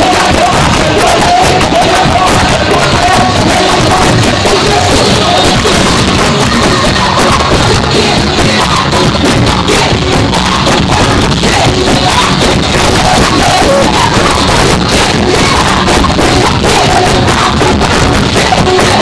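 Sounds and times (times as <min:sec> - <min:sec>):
distorted loud music with singing: 0:00.0 - 0:19.0.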